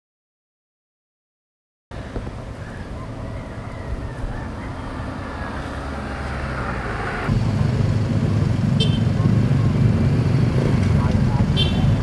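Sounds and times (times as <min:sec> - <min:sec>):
vehicle engines running: 0:01.9 - 0:12.0.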